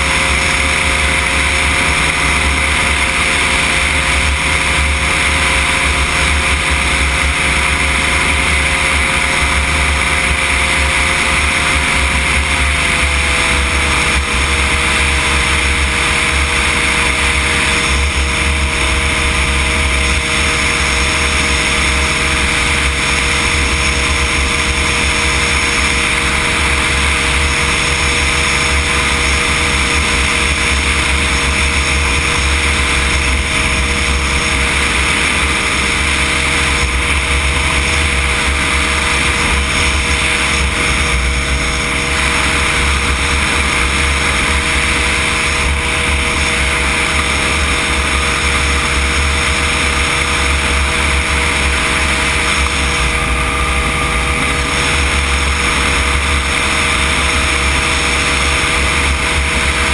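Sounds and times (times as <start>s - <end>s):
microlight engine and propeller: 0.0s - 59.9s.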